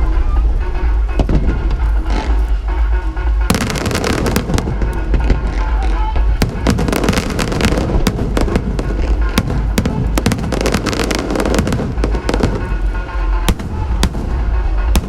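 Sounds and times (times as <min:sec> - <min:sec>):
low rumble: 0:00.0 - 0:15.0
music playing: 0:00.0 - 0:15.0
fireworks bangs and crackles: 0:01.0 - 0:15.0.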